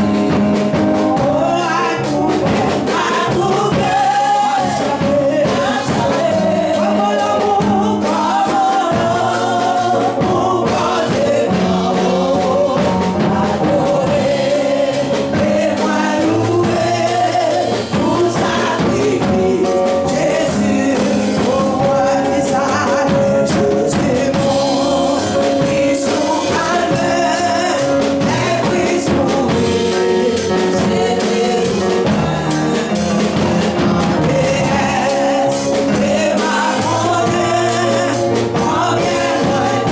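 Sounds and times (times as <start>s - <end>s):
gospel singing with band: 0.0s - 39.9s.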